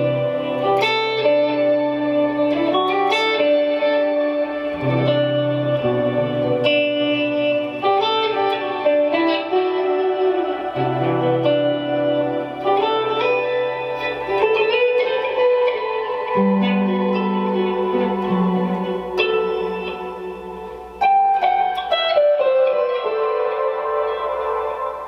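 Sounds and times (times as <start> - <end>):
clean electric guitar with reverb: 0.0 - 25.0.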